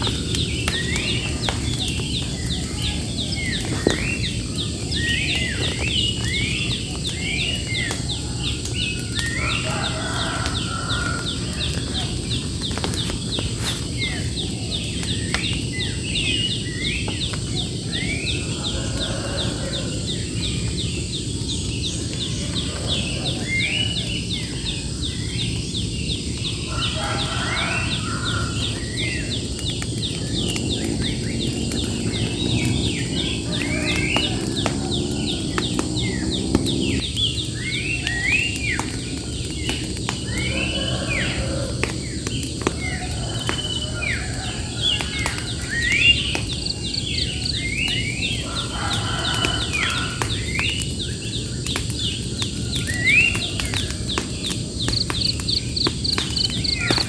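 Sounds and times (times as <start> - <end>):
outdoor background noise: 0.0 - 57.0
wild birds singing: 0.0 - 57.0.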